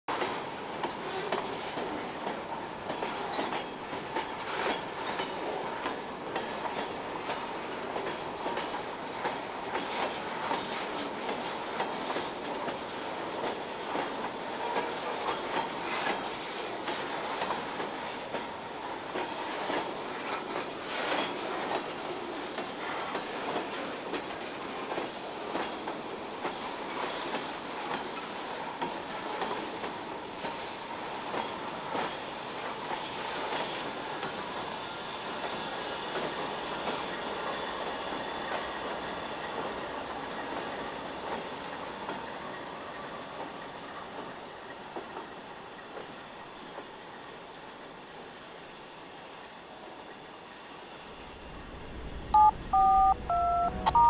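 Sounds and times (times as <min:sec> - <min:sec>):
steel wheels clattering on rails: 0:00.1 - 0:51.8.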